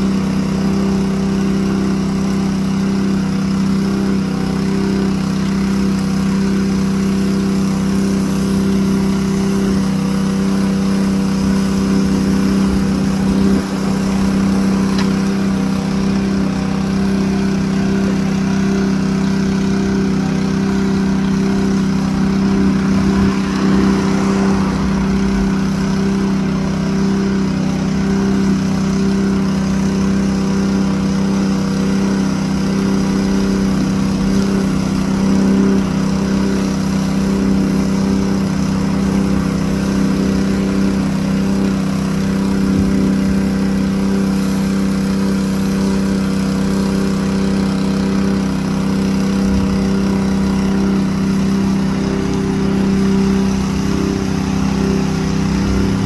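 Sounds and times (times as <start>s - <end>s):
engine droning steadily: 0.0s - 56.0s.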